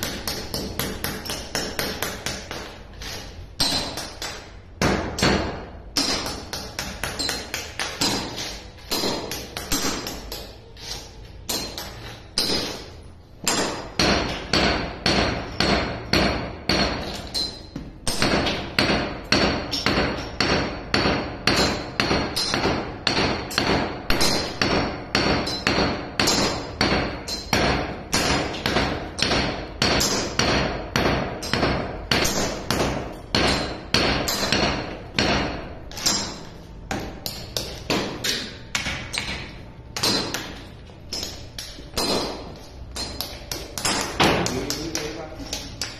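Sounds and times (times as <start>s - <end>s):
hammer striking chisel on concrete: 0.0s - 45.9s.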